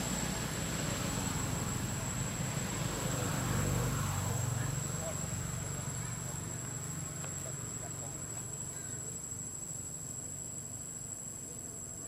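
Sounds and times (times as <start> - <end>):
insects high-pitched drone: 0.0 - 12.0.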